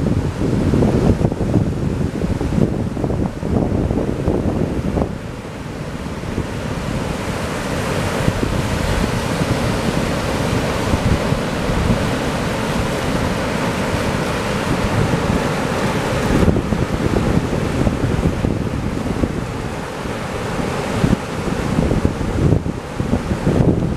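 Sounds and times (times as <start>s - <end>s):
ocean surf breaking on shore: 0.0s - 23.9s
wind buffeting microphone: 0.0s - 23.9s.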